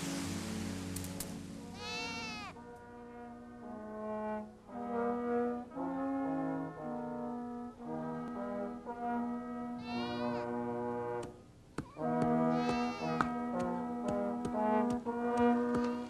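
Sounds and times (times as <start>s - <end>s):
slow film score music: 0.0s - 16.0s.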